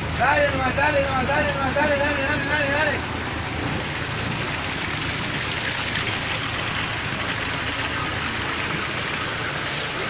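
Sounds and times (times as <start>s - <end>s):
floodwater rushing: 0.0s - 10.0s
vehicle engine running low: 0.0s - 10.0s.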